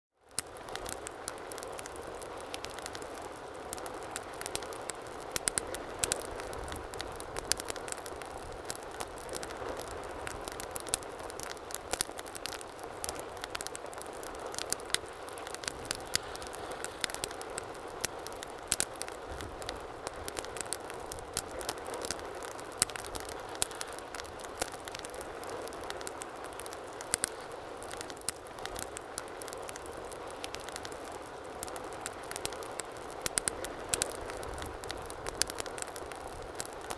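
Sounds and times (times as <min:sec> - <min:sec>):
wood fire hissing and crackling: 0:00.2 - 0:36.9.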